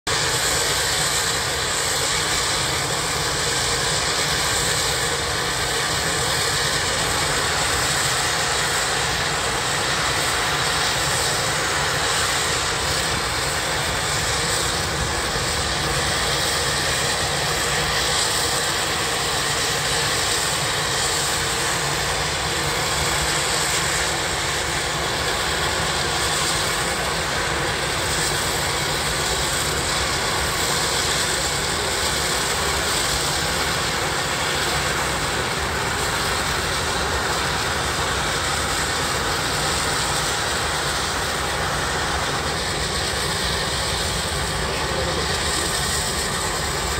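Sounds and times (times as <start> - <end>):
steam engine exhaust rushing: 0.1 - 46.9.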